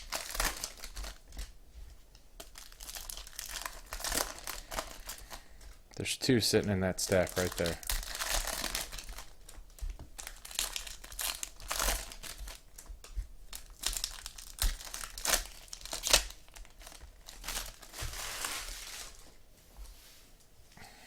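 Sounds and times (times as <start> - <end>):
foil wrappers crinkling and tearing: 0.0 - 1.6, 2.4 - 5.8, 7.0 - 19.3.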